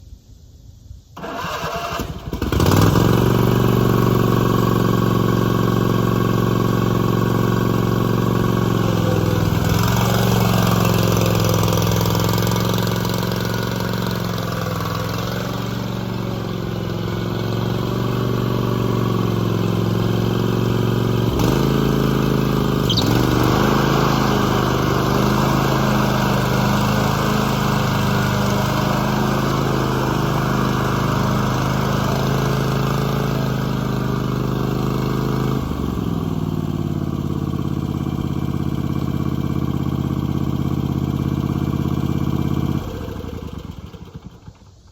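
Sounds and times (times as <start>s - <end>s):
lawn mower engine starting and running: 1.1s - 44.9s.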